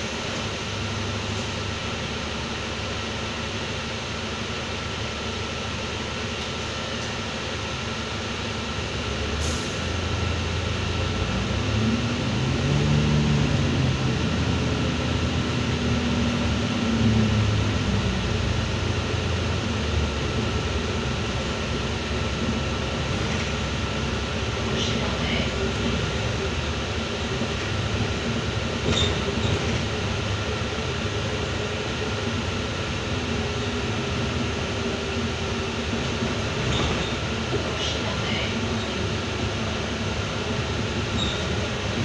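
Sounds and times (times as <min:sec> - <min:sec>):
bus drivetrain droning: 0:00.0 - 0:42.0
bus hum with high tone: 0:00.0 - 0:42.0.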